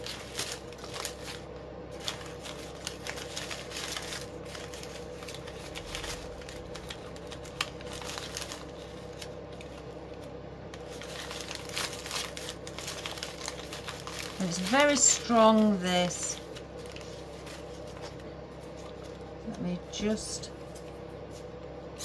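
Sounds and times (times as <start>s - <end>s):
ribbon crinkling and rustling: 0.0s - 22.0s.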